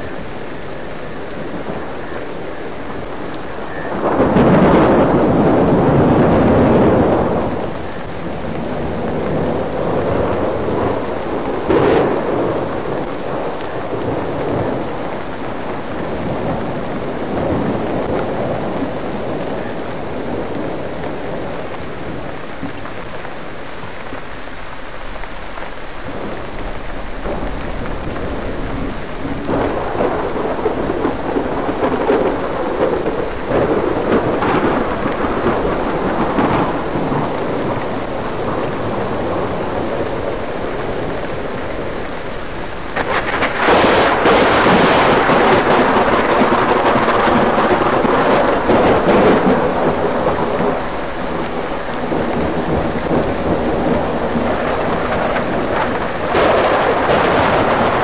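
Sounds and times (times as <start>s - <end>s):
heavy rain pouring: 0.0s - 58.0s
thunder rumbling: 0.0s - 58.0s.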